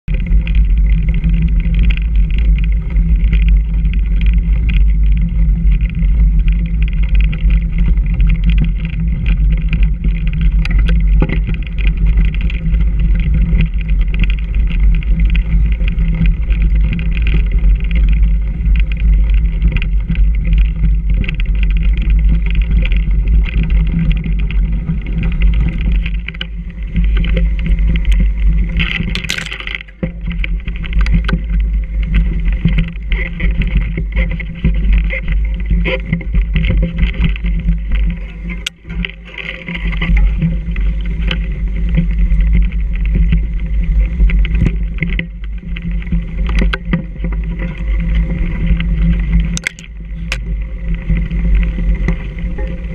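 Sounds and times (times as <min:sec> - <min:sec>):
wind rumble on microphone: 0:00.0 - 0:52.9
bike knocks and rattles: 0:00.1 - 0:52.9.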